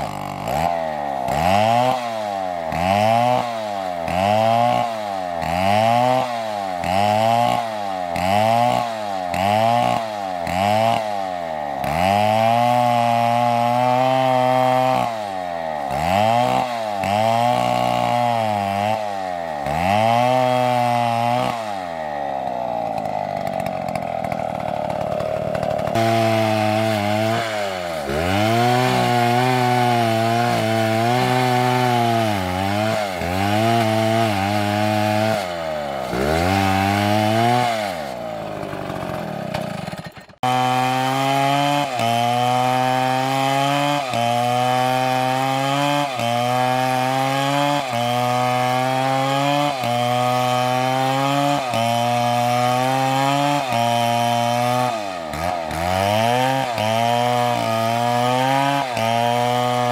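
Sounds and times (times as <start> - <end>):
chainsaw cutting wood: 0.0 - 59.9
chainsaw engine revving: 0.0 - 59.9.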